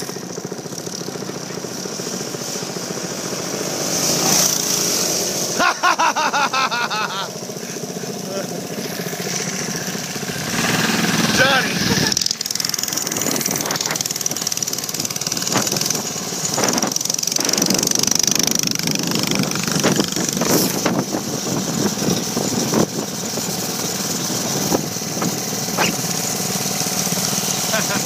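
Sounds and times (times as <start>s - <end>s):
mini bike engine running: 0.0s - 28.0s.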